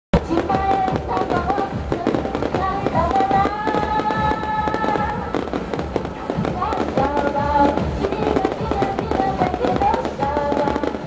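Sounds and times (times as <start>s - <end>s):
firecrackers crackling: 0.2s - 11.0s
loud music with singing over speakers: 0.2s - 11.0s.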